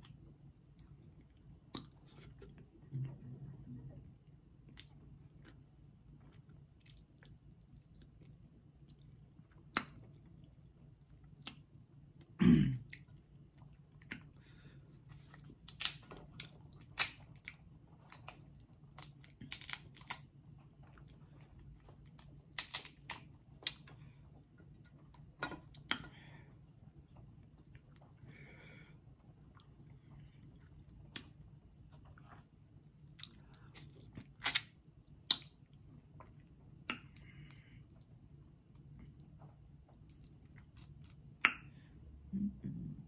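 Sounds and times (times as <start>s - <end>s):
chewing and smacking: 0.0s - 2.7s, 4.6s - 25.0s, 29.4s - 41.7s.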